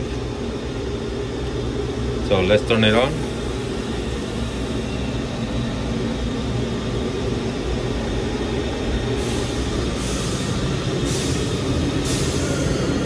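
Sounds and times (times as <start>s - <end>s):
industrial machinery drone: 0.0s - 13.0s.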